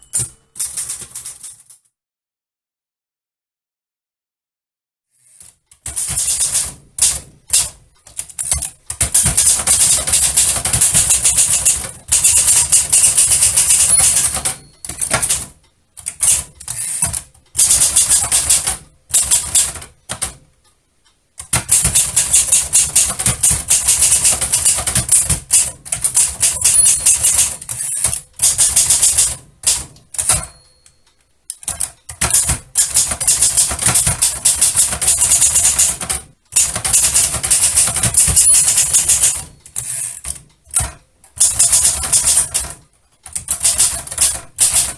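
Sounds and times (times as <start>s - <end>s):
typewriter typing: 0.0s - 1.9s, 5.3s - 20.4s, 21.4s - 31.0s, 31.6s - 44.9s.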